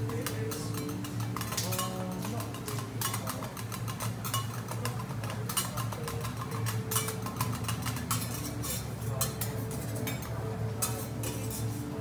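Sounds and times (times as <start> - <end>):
spatulas scraping on griddle: 0.0 - 12.0
steady low hum: 0.0 - 12.0.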